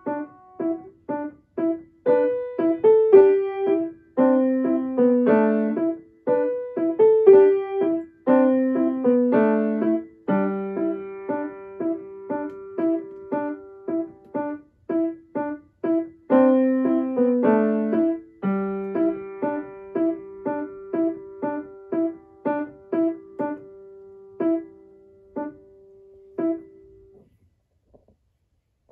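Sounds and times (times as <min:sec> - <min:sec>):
grand piano playing: 0:00.0 - 0:26.9.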